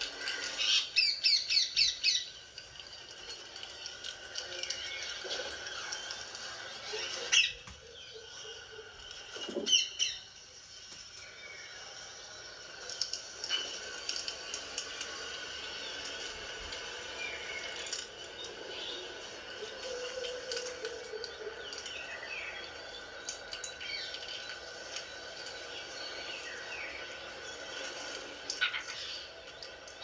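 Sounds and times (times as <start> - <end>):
soft bird chirps: 0.0 - 30.0.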